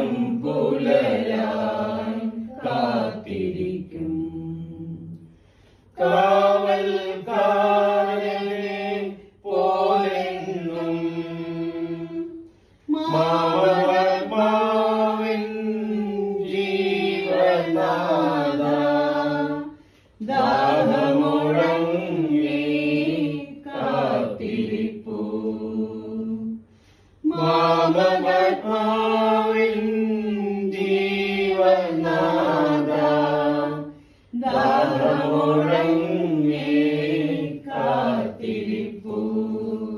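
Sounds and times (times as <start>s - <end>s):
group singing a slow hymn: 0.0s - 39.9s.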